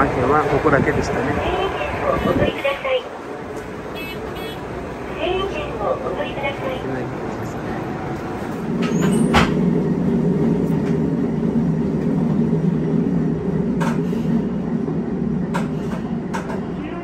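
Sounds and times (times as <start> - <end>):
railcar diesel engine running: 0.0 - 17.0.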